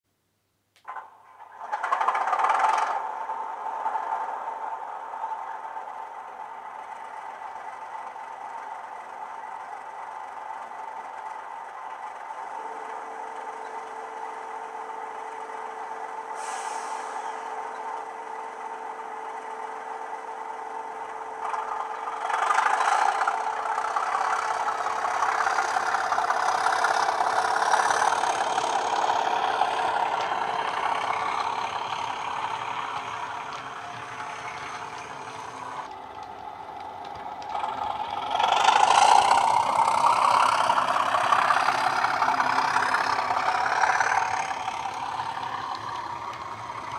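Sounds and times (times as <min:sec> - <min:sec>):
model diesel engine sound: 0:00.2 - 0:46.9.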